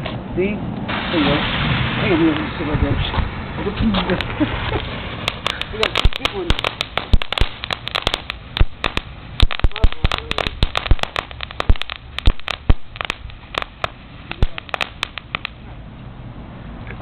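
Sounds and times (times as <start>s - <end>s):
firecrackers popping: 0.9s - 15.7s.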